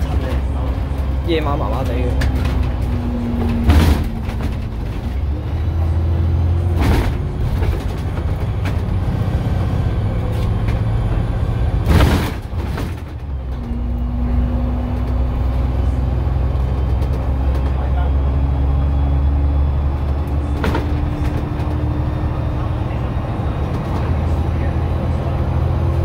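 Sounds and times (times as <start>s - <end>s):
bus engine low drone: 0.0s - 26.0s.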